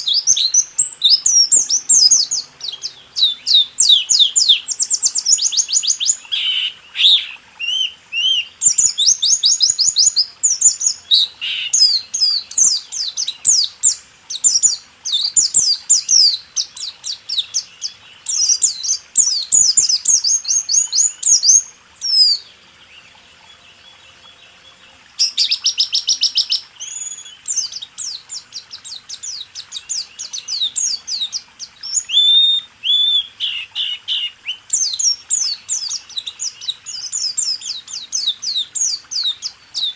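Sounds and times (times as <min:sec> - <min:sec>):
bird singing rapid high chirps: 0:00.0 - 0:22.5, 0:25.2 - 0:39.9.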